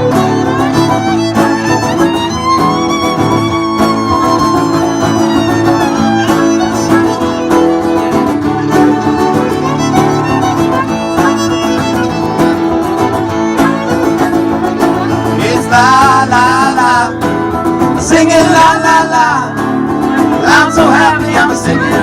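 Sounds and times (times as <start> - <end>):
fiddle playing lead: 0.0 - 18.1, 18.8 - 22.0
rhythm guitar: 0.0 - 22.0.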